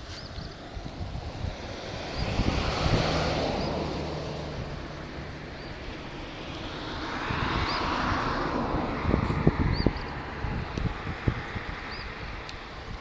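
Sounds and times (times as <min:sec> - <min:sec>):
low engine hum: 0:00.0 - 0:13.0
wind on microphone: 0:00.0 - 0:13.0.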